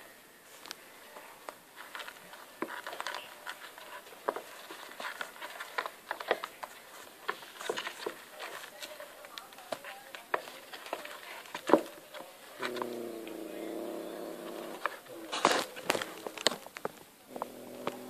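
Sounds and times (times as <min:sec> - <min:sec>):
kitten paws tapping on wooden floor: 0:01.4 - 0:13.4, 0:14.5 - 0:18.0.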